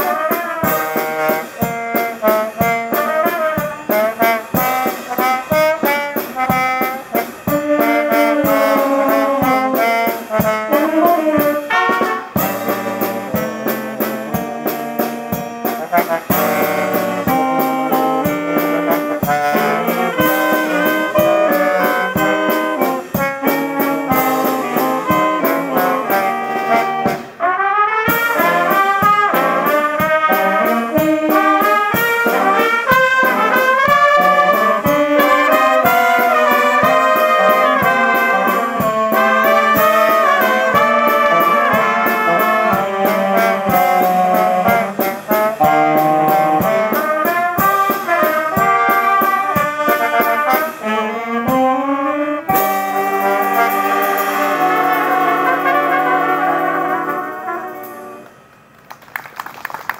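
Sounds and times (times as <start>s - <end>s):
brass band playing: 0.0s - 58.8s.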